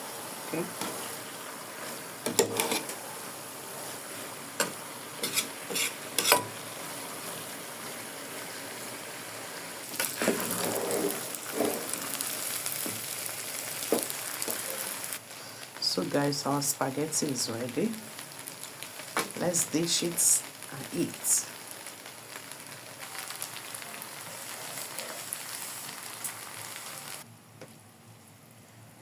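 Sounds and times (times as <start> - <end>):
food sizzling in a pot: 0.0 - 27.3.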